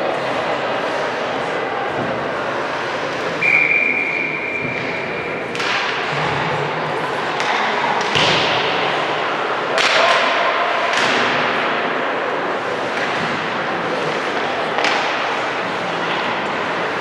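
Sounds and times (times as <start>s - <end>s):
crowd and players din: 0.0s - 17.0s.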